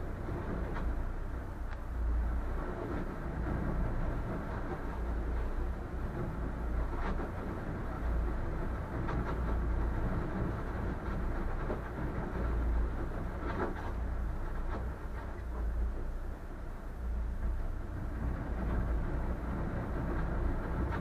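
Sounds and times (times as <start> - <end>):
boat rumbling through ice: 0.0 - 21.0.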